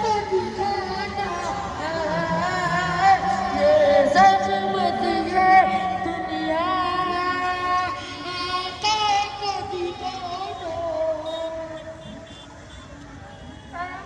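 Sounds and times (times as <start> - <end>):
devotional singing voices: 0.0 - 11.7.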